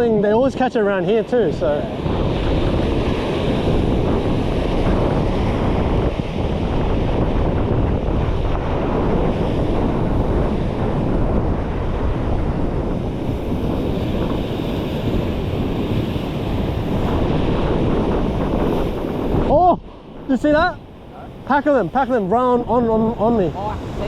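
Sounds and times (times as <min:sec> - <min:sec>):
ocean surf against rocks: 0:00.0 - 0:24.0
wind buffeting microphone: 0:00.0 - 0:24.0.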